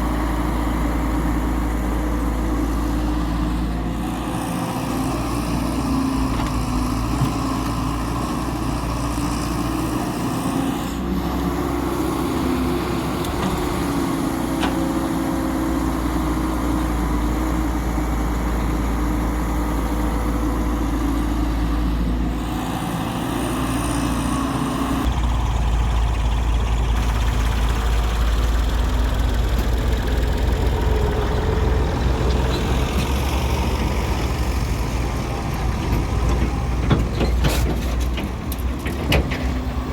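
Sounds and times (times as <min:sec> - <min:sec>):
diesel excavator engine rumbling: 0:00.0 - 0:39.9.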